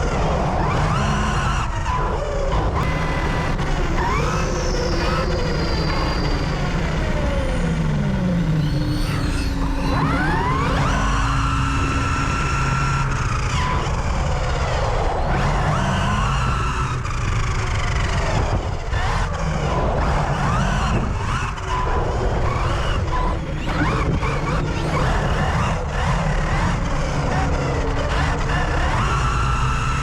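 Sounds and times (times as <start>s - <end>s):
electric rc car motors whining: 0.0s - 30.0s
rumble of tyre and wind noise: 0.0s - 30.0s.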